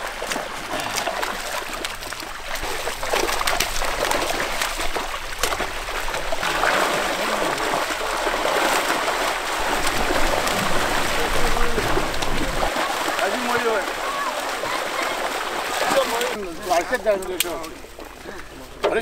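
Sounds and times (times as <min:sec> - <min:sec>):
shallow water splashing: 0:00.0 - 0:19.0.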